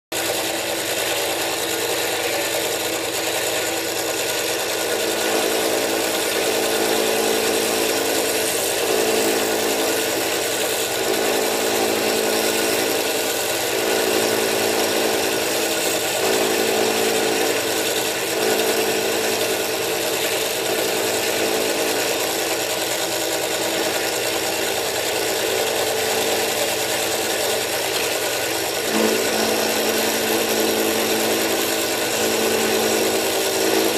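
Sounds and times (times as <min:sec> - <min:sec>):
milling machine cutting metal: 0:00.1 - 0:33.9.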